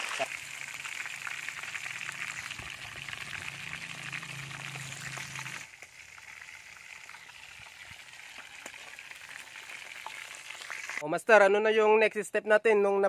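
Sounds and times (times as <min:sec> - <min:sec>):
fish deep-frying in hot oil: 0:00.0 - 0:11.0.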